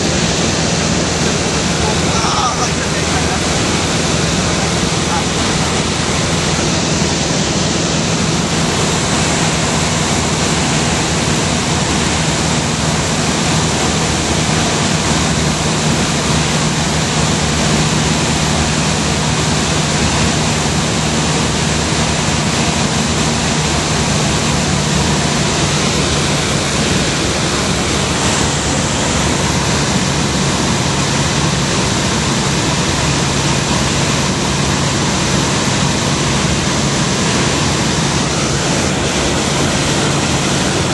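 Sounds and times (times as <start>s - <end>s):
aircraft engine and propeller drone: 0.0s - 40.9s
rush of air: 0.0s - 40.9s.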